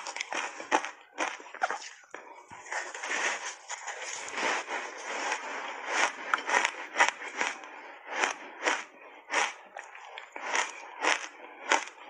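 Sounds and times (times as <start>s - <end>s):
ice crunching while chewed: 0.0s - 12.0s.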